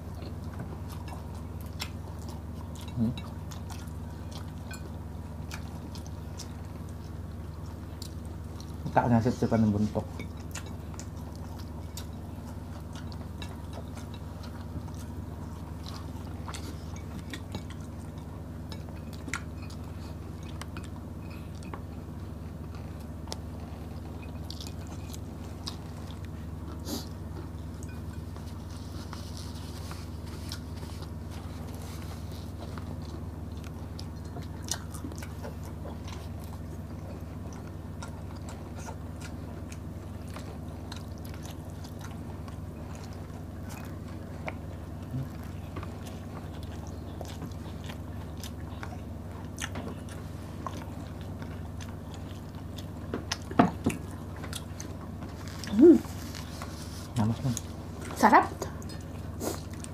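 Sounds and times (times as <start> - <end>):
chewing and biting food: 0.0 - 59.9
steady low hum: 0.0 - 59.9.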